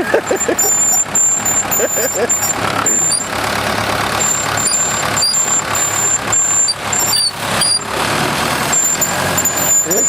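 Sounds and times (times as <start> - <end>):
bulldozer engine running: 0.0 - 10.0.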